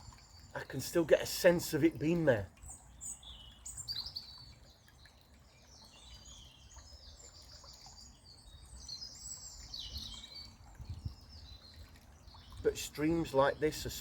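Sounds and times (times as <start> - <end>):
small birds singing: 0.0 - 14.0.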